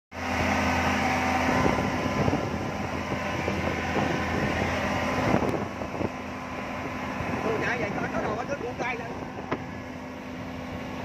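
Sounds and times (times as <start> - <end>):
rushing wind and water: 0.1 - 11.0
speedboat engine drone: 0.1 - 11.0.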